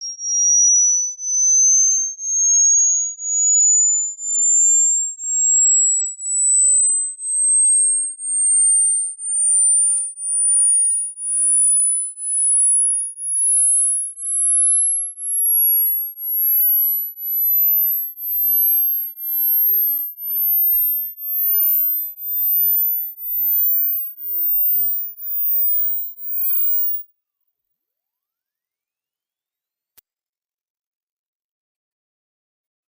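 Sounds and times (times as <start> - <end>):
pulsing sine tone: 0.0 - 27.0.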